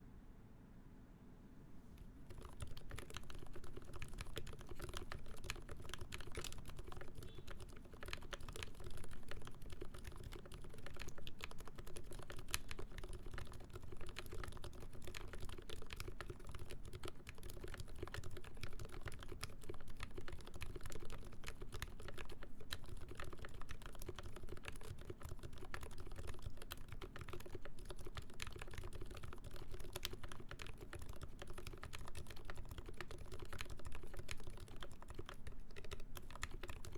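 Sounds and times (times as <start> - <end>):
mechanical keyboard typing: 2.3 - 36.9.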